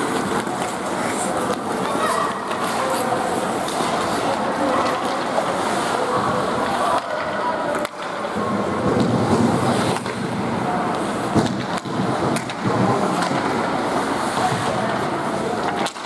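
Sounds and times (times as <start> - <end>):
hockey sticks knocking: 0.0 - 5.5, 6.6 - 14.8, 15.6 - 16.0
skate blades scraping ice: 0.0 - 16.0.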